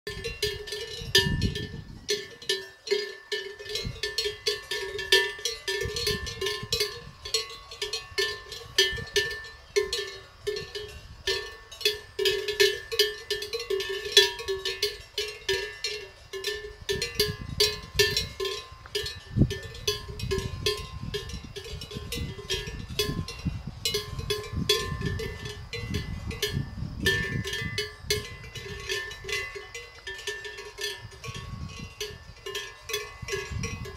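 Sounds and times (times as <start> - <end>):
cowbells clanking: 0.1 - 33.9.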